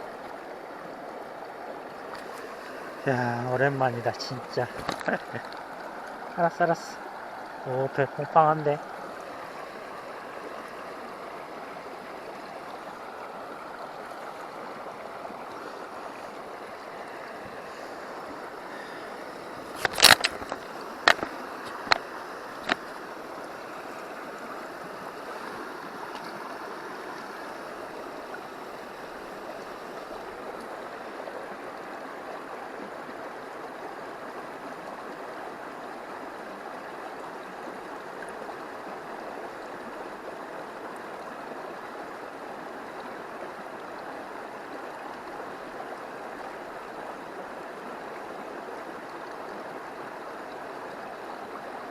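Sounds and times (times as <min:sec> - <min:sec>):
river water flowing over stones: 0:00.0 - 0:51.9.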